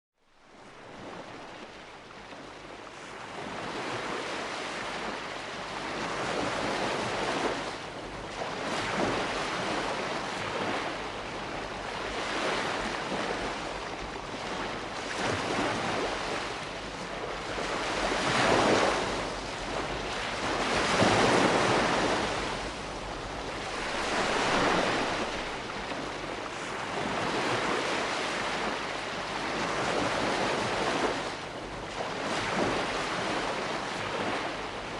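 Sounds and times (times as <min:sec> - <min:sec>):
gentle waves breaking on shore: 0:00.2 - 0:34.9.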